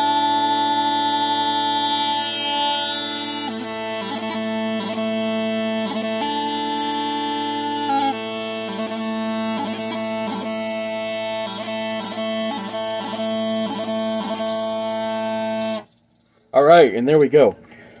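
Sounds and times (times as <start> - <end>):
smallpipes playing a tune: 0.0 - 16.1.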